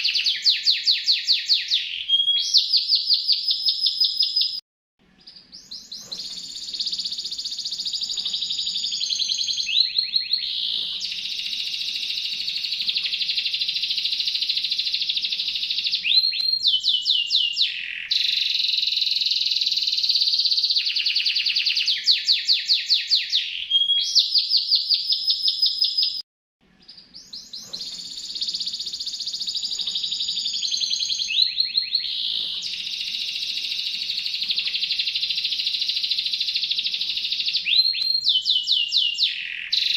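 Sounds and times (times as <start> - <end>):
songbird singing trills: 0.0 - 4.6, 5.2 - 26.2, 26.8 - 39.9.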